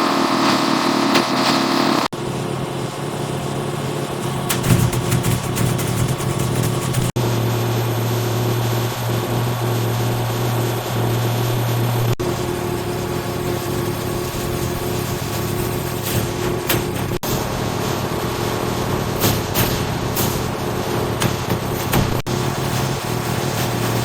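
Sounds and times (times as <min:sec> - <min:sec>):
production-line machinery humming: 0:00.0 - 0:24.0.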